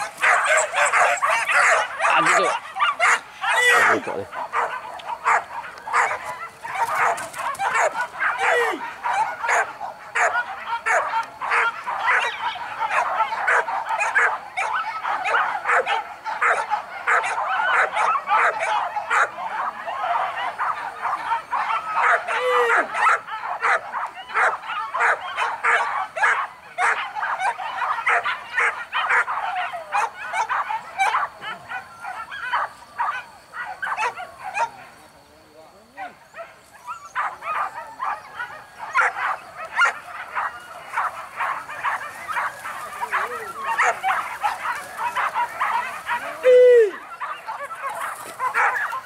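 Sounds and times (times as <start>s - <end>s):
dogs barking and yelping: 0.0s - 49.0s.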